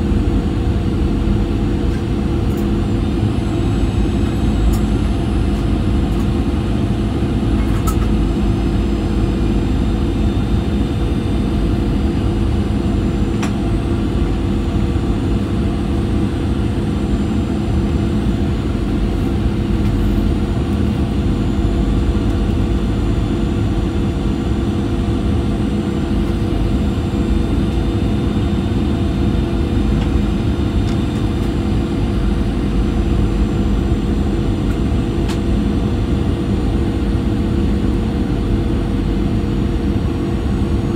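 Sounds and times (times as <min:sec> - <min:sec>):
airplane cabin roar: 0:00.0 - 0:40.9
constant low hum: 0:00.0 - 0:40.9.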